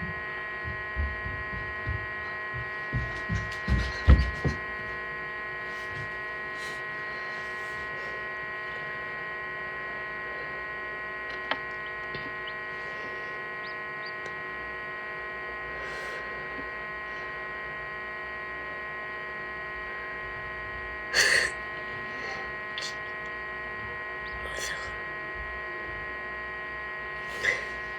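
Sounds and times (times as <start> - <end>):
incubator electrical hum: 0.0 - 27.9.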